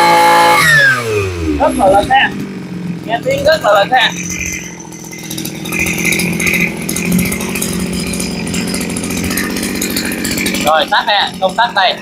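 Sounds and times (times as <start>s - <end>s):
brush cutter engine revving: 0.0s - 12.0s.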